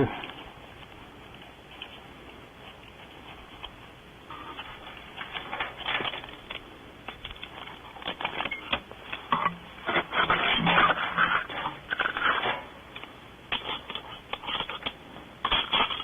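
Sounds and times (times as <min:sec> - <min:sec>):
scraping and rustling: 0:00.0 - 0:16.0.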